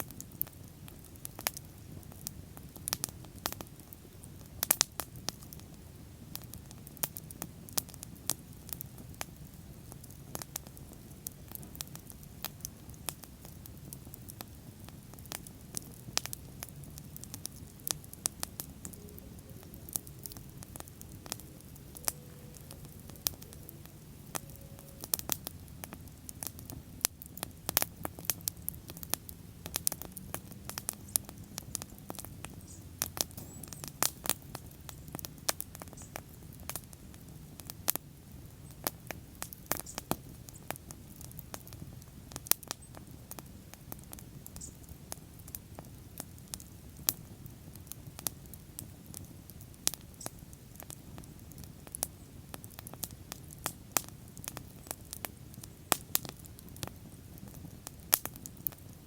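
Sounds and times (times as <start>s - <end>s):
bonfire pops and snaps: 0.0s - 59.0s
low rumble of flames: 0.0s - 59.0s.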